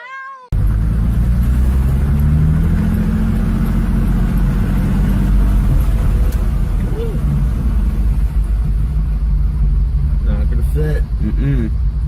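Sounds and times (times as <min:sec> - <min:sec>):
car engine and road noise: 0:00.5 - 0:12.0.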